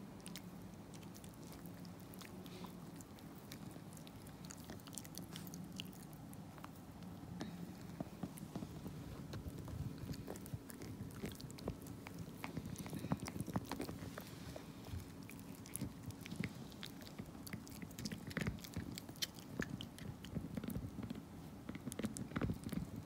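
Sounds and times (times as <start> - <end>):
dog gnawing on chew stick: 0.0 - 23.0.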